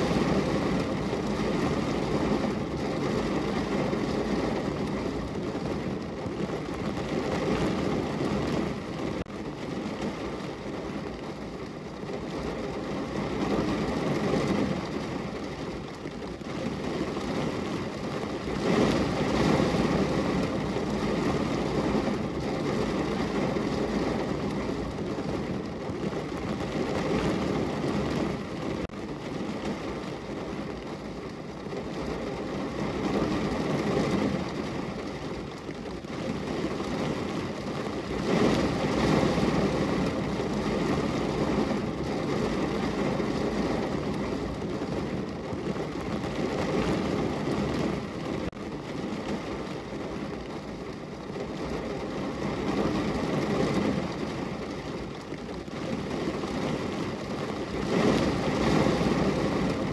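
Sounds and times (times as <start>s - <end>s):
rain on a window pane: 0.0s - 59.9s.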